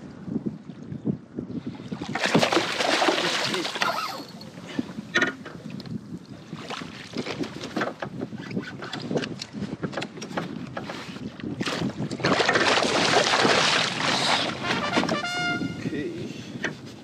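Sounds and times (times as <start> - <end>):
water splashing against a kayak: 0.8 - 15.7.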